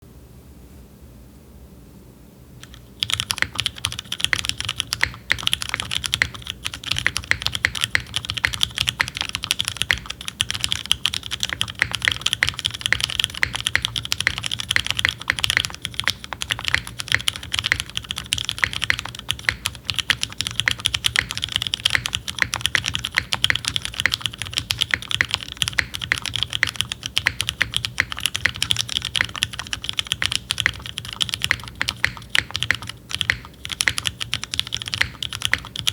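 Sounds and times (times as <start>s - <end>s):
fast typing on mechanical keyboard: 2.6s - 35.9s.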